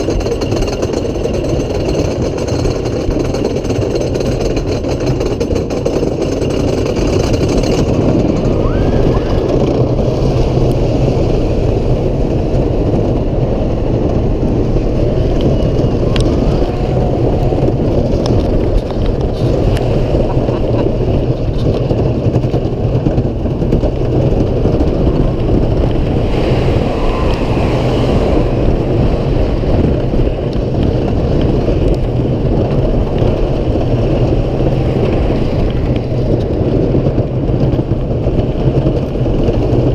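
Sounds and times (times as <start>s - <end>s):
roller coaster wheels rumbling: 0.0s - 39.9s
wind rushing past: 7.8s - 39.9s.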